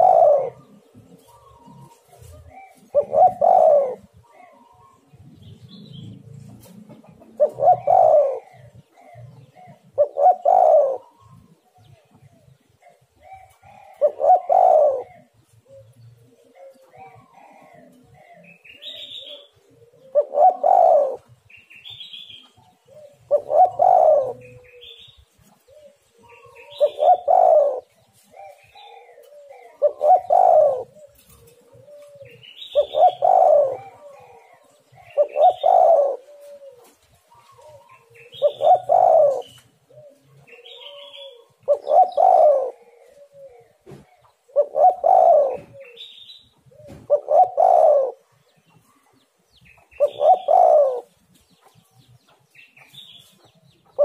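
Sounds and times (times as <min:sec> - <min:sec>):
dove cooing: 0:00.0 - 0:52.1, 0:52.8 - 0:54.0.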